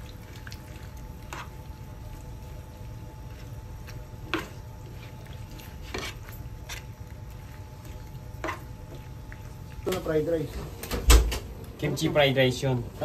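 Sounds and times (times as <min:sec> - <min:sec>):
food rustling in frying pan: 0:00.0 - 0:13.0
steady low hum: 0:00.0 - 0:13.0.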